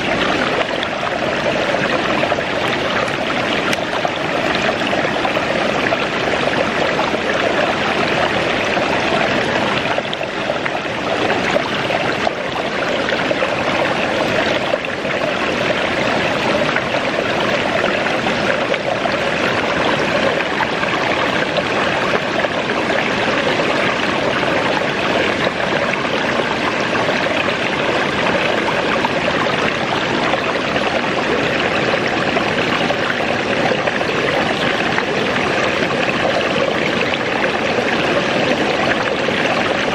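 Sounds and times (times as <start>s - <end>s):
waterfall and creek rushing: 0.0s - 39.9s.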